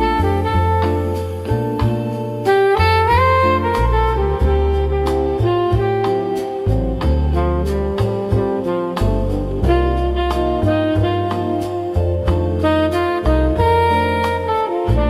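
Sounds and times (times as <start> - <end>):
light drums: 0.0 - 15.0
saxophone melody: 0.0 - 15.0
walking bass: 0.0 - 15.0.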